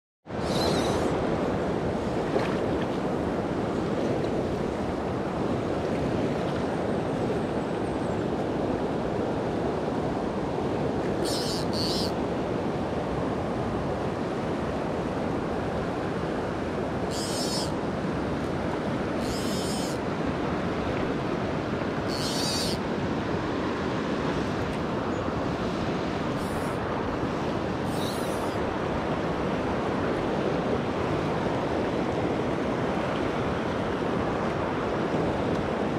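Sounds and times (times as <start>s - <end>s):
river water rushing over riffles: 0.3s - 35.9s.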